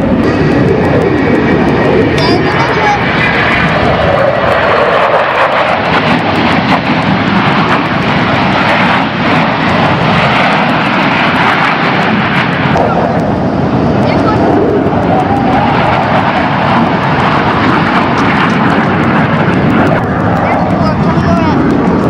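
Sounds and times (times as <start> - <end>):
jet engines flying overhead: 0.0 - 22.0.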